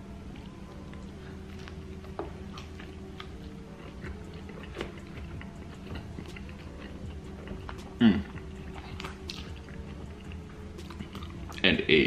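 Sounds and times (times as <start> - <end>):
man chewing crunchy food: 0.0 - 11.7.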